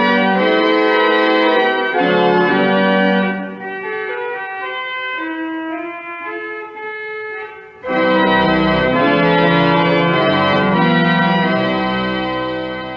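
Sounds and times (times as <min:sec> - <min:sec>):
church organ playing chords: 0:00.0 - 0:12.9.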